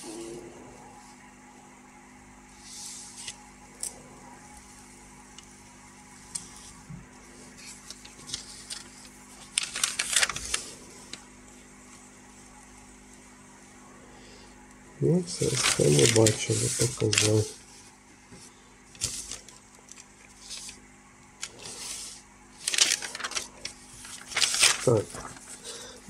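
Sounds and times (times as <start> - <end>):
faint hum: 0.0 - 26.0.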